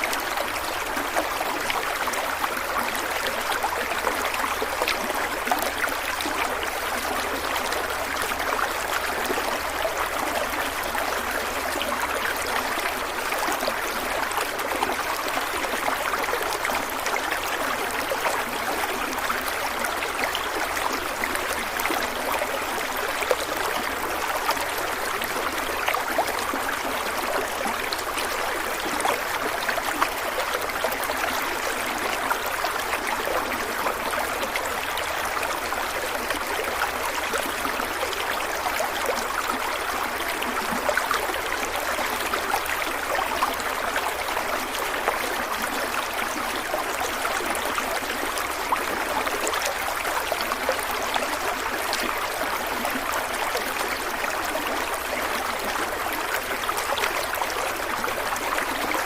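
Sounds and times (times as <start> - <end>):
stream of water running: 0.0 - 59.0.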